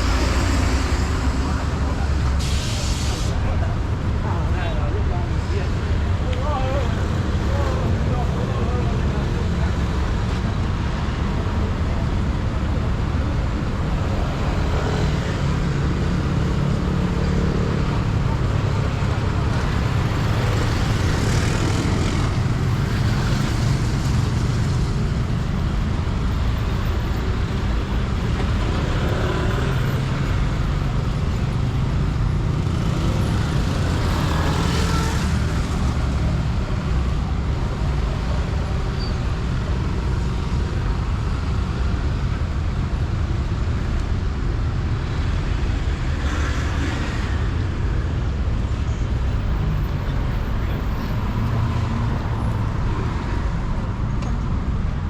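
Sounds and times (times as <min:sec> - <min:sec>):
city road traffic rumble: 0:00.0 - 0:55.0
vehicles passing: 0:00.0 - 0:55.0.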